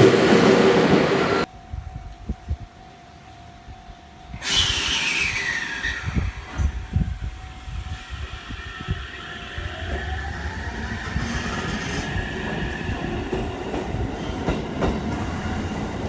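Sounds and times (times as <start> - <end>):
train running: 0.0 - 16.0.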